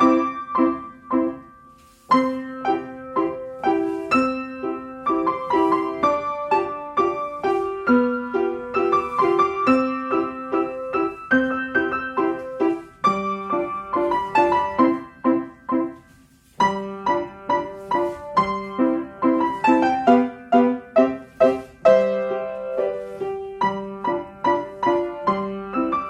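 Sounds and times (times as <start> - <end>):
rhythmic piano accompaniment: 0.0 - 26.0.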